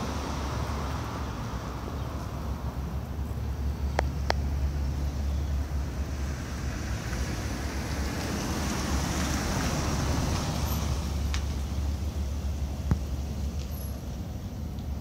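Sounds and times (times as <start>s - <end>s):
traffic rumble and hiss: 0.0s - 15.0s.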